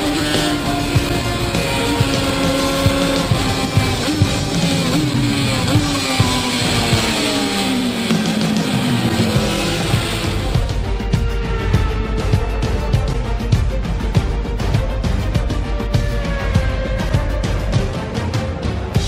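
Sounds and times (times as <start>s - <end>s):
music with steady beat: 0.0s - 19.0s
racing engine noise: 0.0s - 19.0s.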